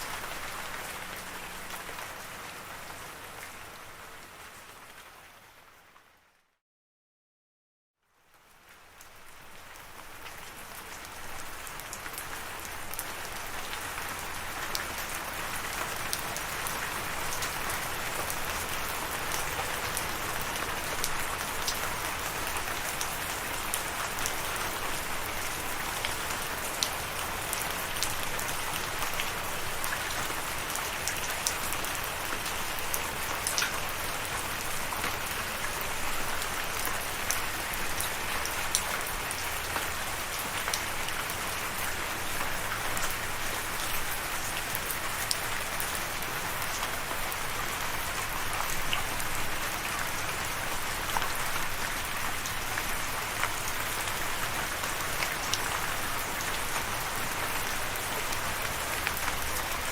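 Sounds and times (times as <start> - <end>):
steady rain falling: 0.0 - 6.5, 8.0 - 59.9
rain drops ticking: 8.4 - 59.9.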